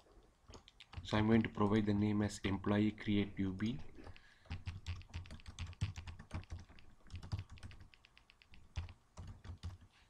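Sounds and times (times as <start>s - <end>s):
computer keyboard typing: 0.1s - 2.0s, 3.6s - 9.9s.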